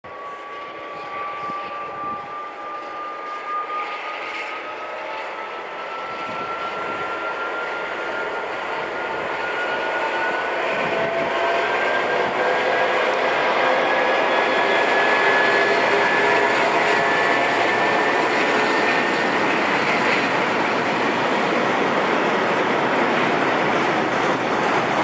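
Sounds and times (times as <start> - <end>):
diesel locomotive engine working hard: 0.0 - 25.0
high rising whine: 0.0 - 25.0.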